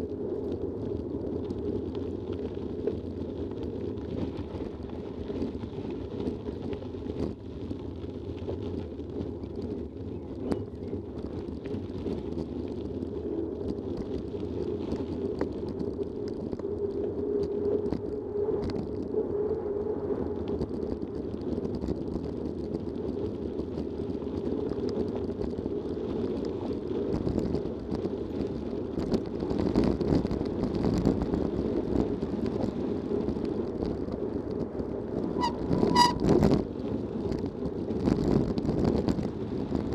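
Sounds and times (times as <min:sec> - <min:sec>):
bike tyres rolling over gravel: 0:00.0 - 0:39.9
wind on microphone: 0:00.0 - 0:39.9.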